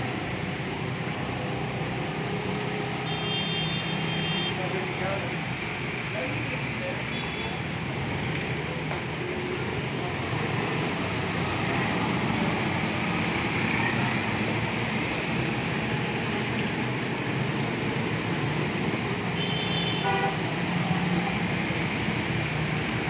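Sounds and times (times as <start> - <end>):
heavy rain pouring on a street: 0.0 - 23.0
road traffic: 0.0 - 23.0.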